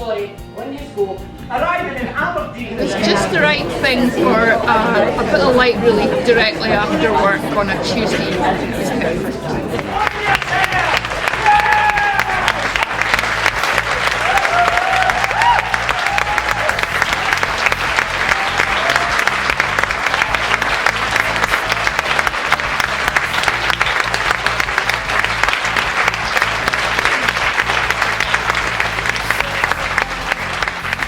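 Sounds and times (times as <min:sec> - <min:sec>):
background music: 0:00.0 - 0:31.0
audience applauding: 0:02.8 - 0:31.0.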